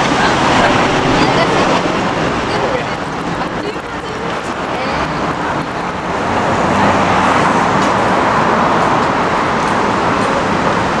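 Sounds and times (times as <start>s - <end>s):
city road traffic: 0.0s - 11.0s
vehicle passing close: 0.0s - 11.0s.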